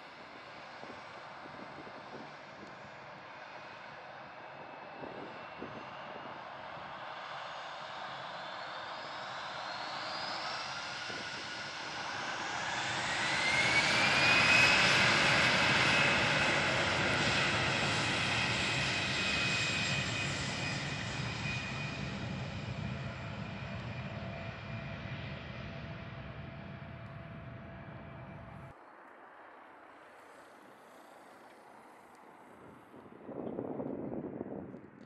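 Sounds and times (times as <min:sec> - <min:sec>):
jet engine noise with whine: 0:00.0 - 0:35.0.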